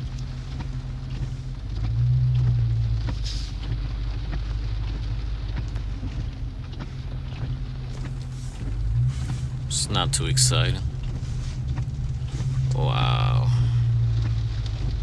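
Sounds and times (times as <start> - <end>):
car engine hum inside cabin: 0.0 - 15.0
rain ticking: 0.0 - 15.0.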